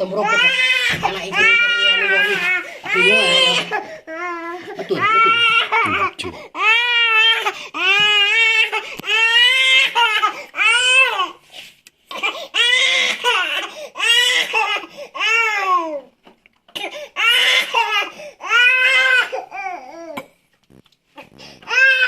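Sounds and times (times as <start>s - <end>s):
baby crying: 0.0s - 11.4s, 12.1s - 16.1s, 16.8s - 20.2s, 21.6s - 22.0s.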